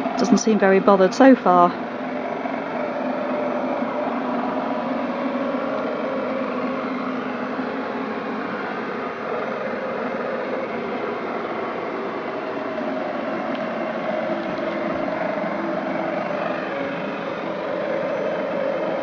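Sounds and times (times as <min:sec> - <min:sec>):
robot vacuum cleaner whirring: 0:01.8 - 0:19.0.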